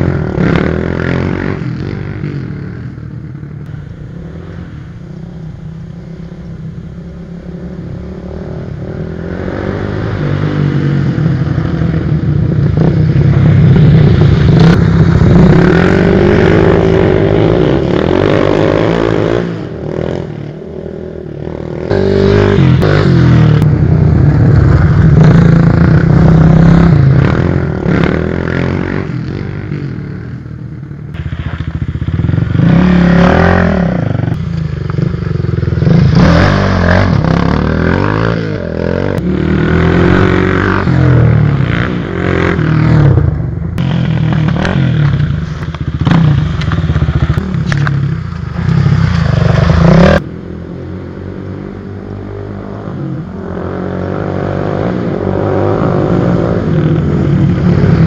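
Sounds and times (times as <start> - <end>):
trail bike engines passing: 0.0 - 58.0.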